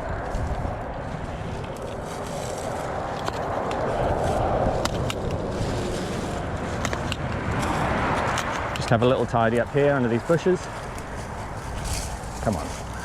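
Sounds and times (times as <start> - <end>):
road traffic: 0.0 - 13.0
vehicle passing with tyre noise: 0.0 - 13.0.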